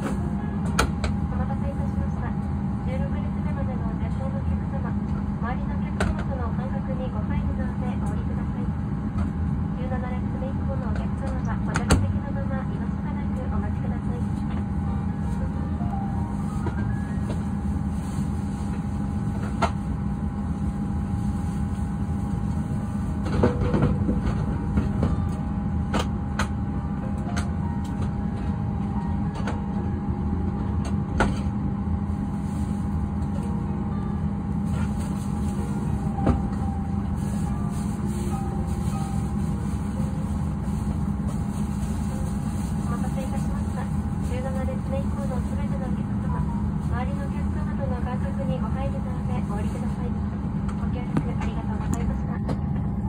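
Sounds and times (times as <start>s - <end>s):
airliner cabin hum: 0.0s - 53.0s.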